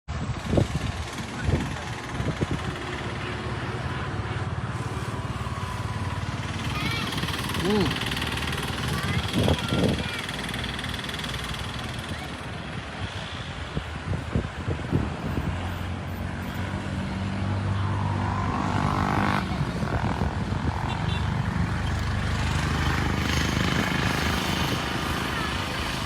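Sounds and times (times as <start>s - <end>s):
vehicle engine running: 0.1s - 13.8s, 16.6s - 26.0s.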